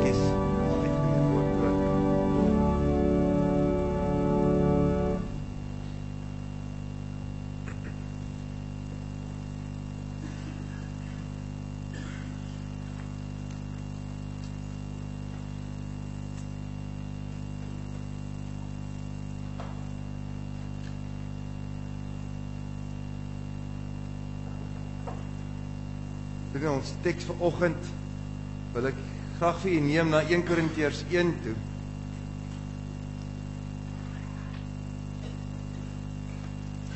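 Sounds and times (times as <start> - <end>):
low electrical hum: 0.0 - 36.9.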